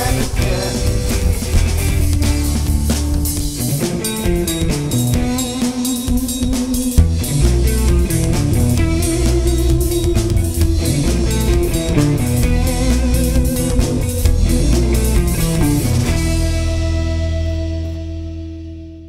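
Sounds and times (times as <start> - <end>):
rock band playing: 0.0 - 18.8.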